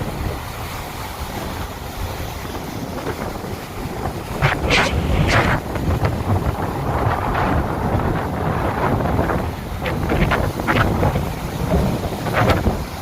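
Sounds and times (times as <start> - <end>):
sea waves breaking on beach: 0.0 - 13.0
wave crashing and washing up: 0.0 - 13.0
wind buffeting microphone: 0.0 - 13.0.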